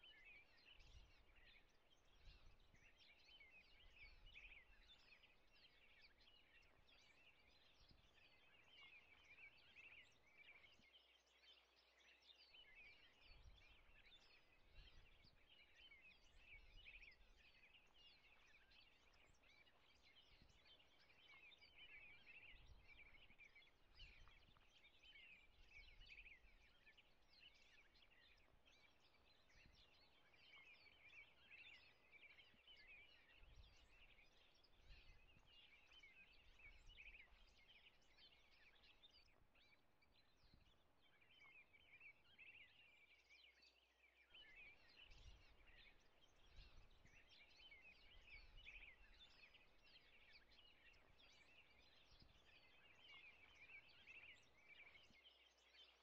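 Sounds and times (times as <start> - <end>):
songbirds twittering: 0.0 - 56.0.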